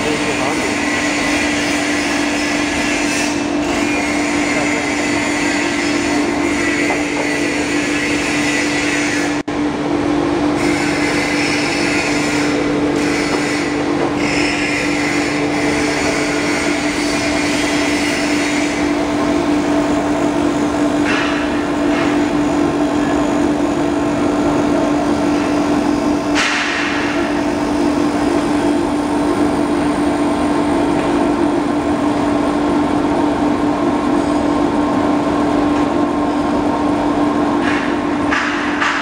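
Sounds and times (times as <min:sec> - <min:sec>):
machine humming: 0:00.0 - 0:38.3.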